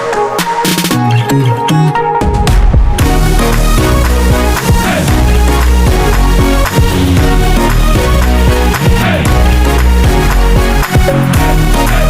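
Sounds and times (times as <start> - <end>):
music with strong bass and beat: 0.0 - 12.0.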